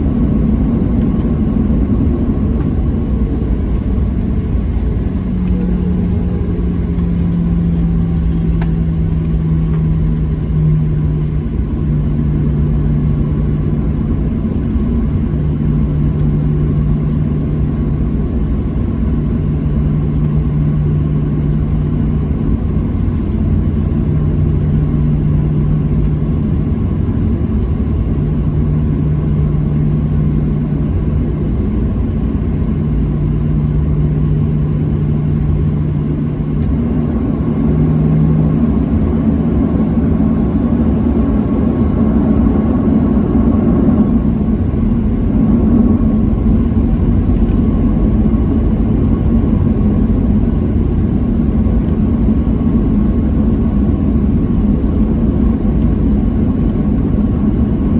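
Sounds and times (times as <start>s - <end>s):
jet engines idling in cabin: 0.0s - 57.9s.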